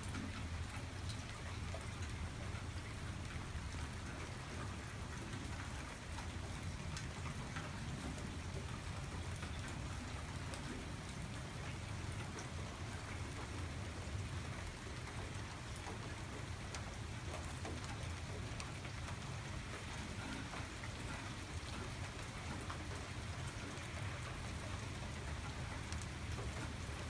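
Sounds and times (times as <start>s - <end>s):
close raindrop ticks: 0.0s - 27.0s
steady rain hiss: 0.0s - 27.0s.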